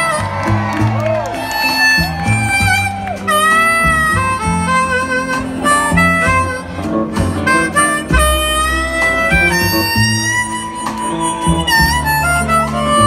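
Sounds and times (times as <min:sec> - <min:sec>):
band backing of guitar and bass: 0:00.0 - 0:13.0
harmonica solo: 0:00.0 - 0:13.0.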